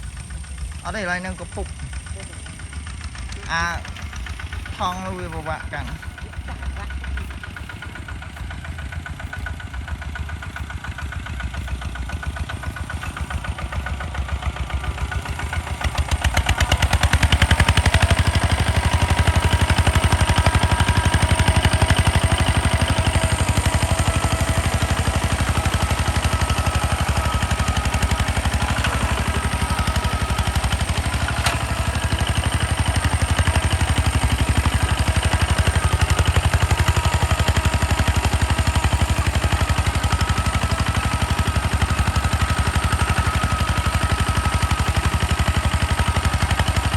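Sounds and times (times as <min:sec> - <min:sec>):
tractor engine chugging: 0:00.0 - 0:46.9.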